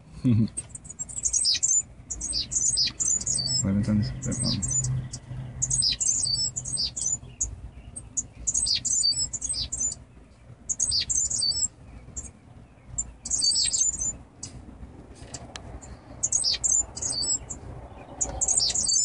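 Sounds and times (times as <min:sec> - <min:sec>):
birds twittering: 0:00.0 - 0:19.0.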